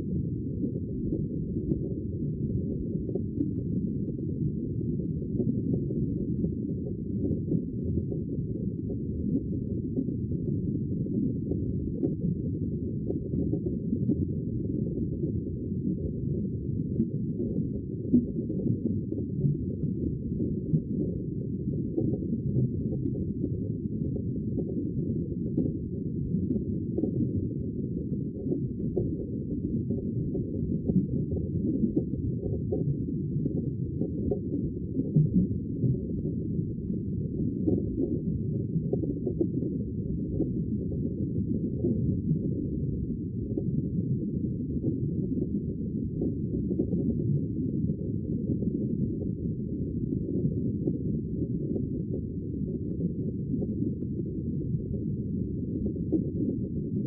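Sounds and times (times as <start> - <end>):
muffled sea water rumble: 0.0 - 57.0.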